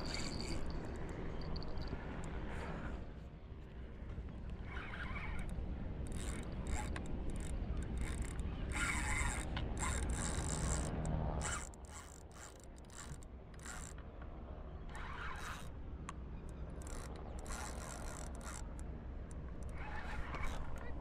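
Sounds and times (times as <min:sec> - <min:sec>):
fishing reel whirring and clicking: 0:00.0 - 0:02.5, 0:04.5 - 0:14.0, 0:14.9 - 0:15.8, 0:16.4 - 0:20.9.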